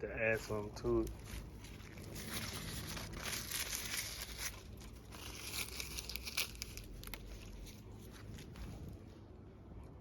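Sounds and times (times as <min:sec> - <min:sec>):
rustling and crinkling: 0:00.0 - 0:09.4.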